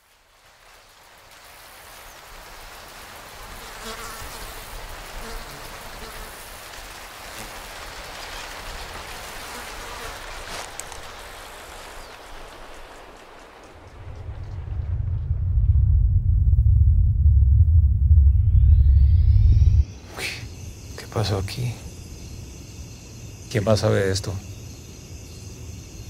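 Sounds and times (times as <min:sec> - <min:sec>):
insects buzzing in a field: 0:00.0 - 0:14.2, 0:18.6 - 0:26.0.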